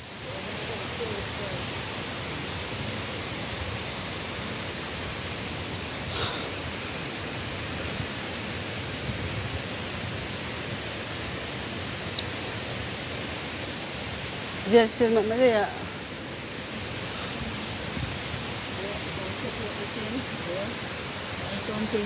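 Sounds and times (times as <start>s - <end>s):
rushing river and waterfall: 0.0s - 22.0s.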